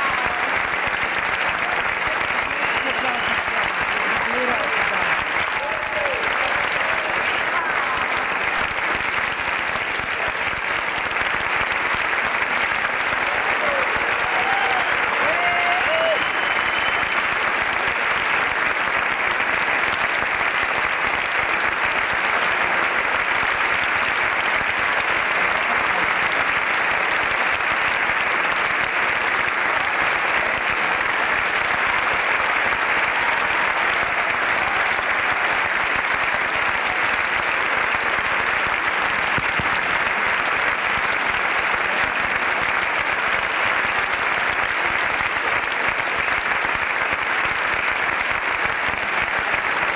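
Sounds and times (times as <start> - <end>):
audience applauding: 0.0 - 49.9
call from the crowd: 0.0 - 49.9.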